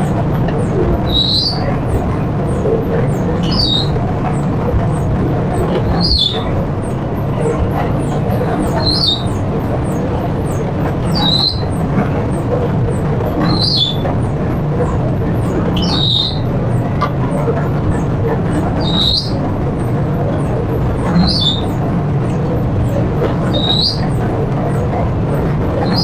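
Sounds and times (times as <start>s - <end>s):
mixing machine drone: 0.0s - 26.0s.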